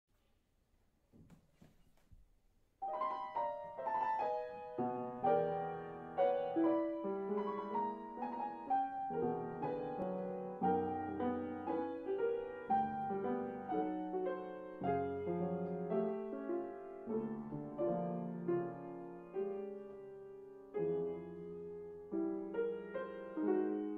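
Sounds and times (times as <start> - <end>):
solo piano: 2.8 - 23.9.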